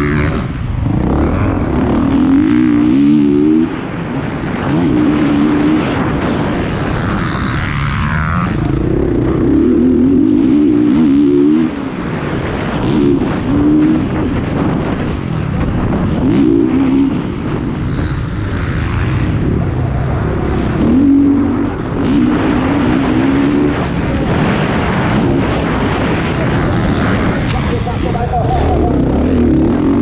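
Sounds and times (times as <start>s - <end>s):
constant rushing noise: 0.0s - 30.0s
motocross bike engine revving: 0.0s - 30.0s.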